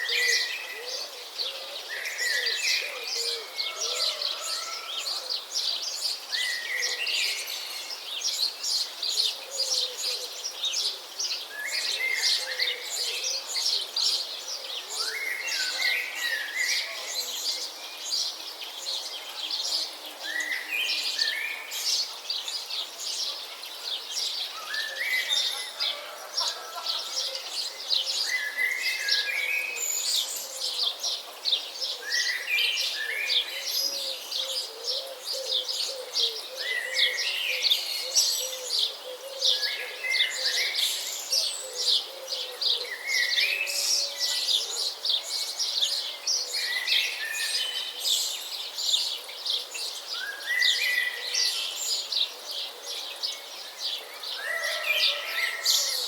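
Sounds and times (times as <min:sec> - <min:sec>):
songbirds chirping in chorus: 0:00.0 - 0:56.0.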